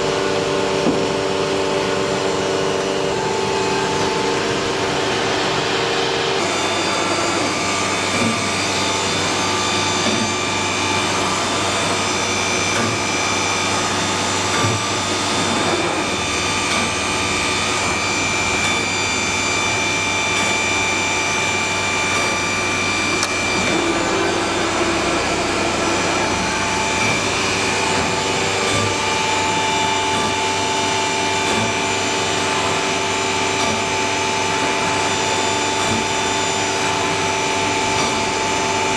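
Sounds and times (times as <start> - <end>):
machine whining noise: 0.0 - 38.9.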